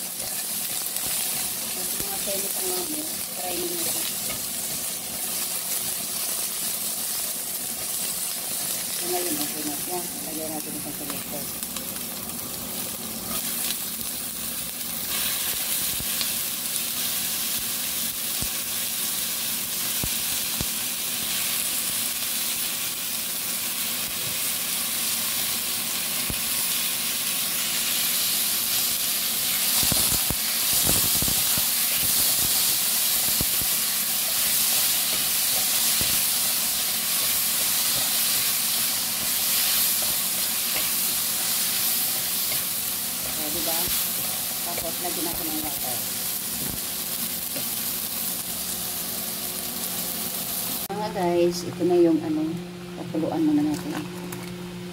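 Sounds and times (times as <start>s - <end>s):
vegetables sizzling in oil: 0.0s - 52.4s.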